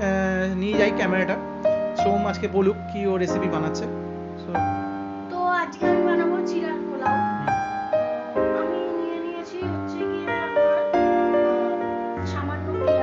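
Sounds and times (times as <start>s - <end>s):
slow instrumental melody: 0.0s - 13.0s.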